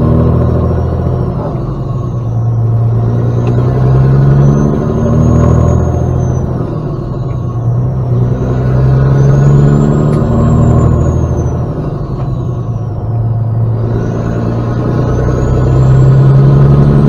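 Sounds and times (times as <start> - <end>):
diesel truck engine accelerating: 0.0 - 17.0.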